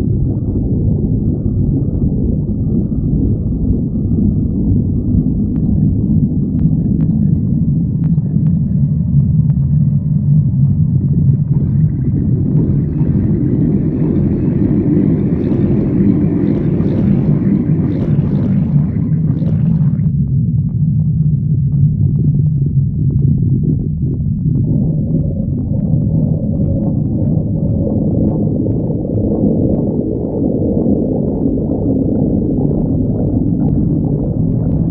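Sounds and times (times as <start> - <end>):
stomach growling: 0.0 - 34.9.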